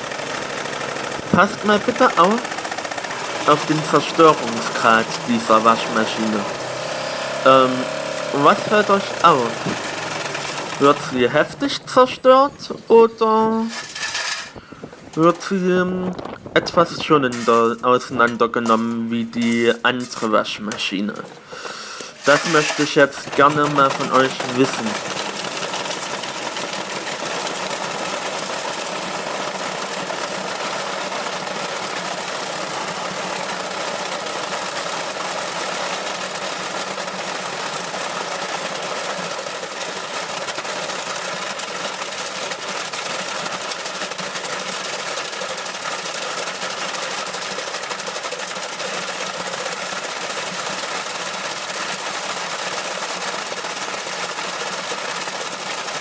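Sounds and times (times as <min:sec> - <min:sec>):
washing machine rattling and knocking: 0:00.0 - 0:12.9, 0:22.2 - 0:56.0.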